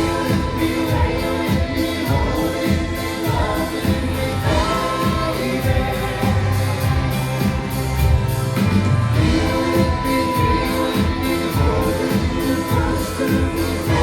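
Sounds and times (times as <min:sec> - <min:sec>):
live soft rock band: 0:00.0 - 0:14.0
people singing: 0:00.0 - 0:14.0.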